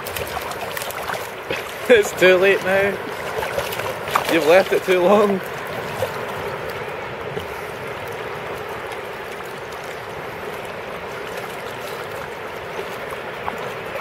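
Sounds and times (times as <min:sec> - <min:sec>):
dog splashing in shallow water: 0:00.0 - 0:14.0.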